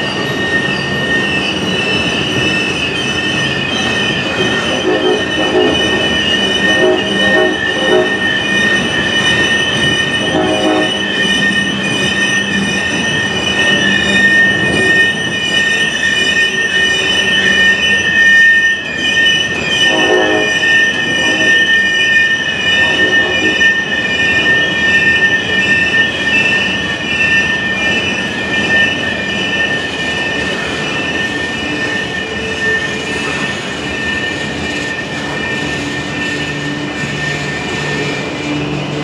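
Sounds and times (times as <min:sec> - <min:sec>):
freight train cars rumbling: 0:00.0 - 0:39.0
train wheels squealing: 0:00.0 - 0:39.0.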